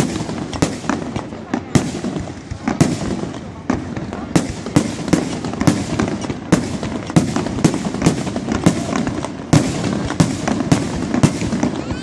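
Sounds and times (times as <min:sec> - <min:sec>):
continuous background noise: 0:00.0 - 0:12.0
fireworks bursting with bangs: 0:00.0 - 0:12.0.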